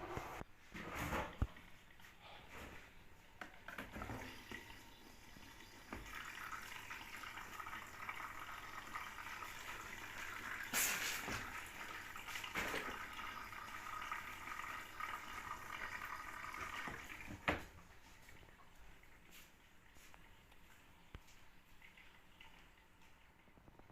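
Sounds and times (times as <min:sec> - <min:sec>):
running water: 0:00.1 - 0:23.9.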